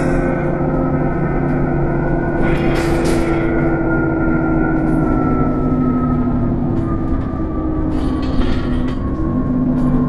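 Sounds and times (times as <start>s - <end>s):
bus engine rumble: 0.0s - 10.0s
falling whine: 0.0s - 10.0s.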